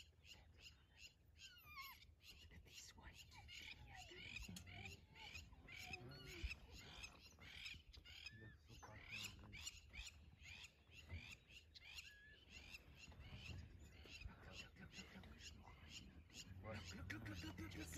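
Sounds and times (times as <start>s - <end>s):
wild dogs high chirping calls: 0.0s - 17.9s.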